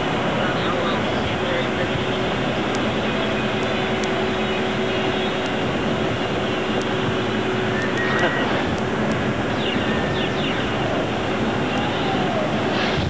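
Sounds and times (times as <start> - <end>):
car road and engine noise: 0.0 - 13.0
steady hum: 0.0 - 13.0.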